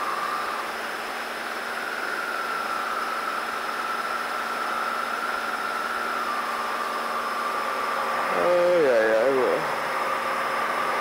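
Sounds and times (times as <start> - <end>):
faint high whine: 0.0 - 11.0
light aircraft engine droning: 0.0 - 11.0.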